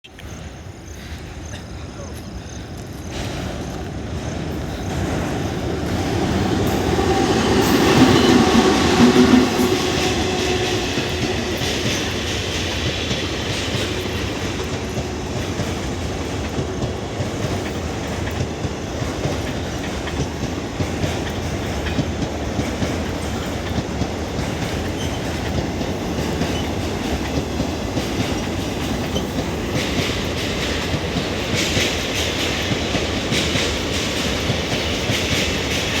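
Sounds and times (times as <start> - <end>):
freight train rumbling over bridge: 0.0 - 36.0
wheels clacking over rail joints: 2.1 - 36.0.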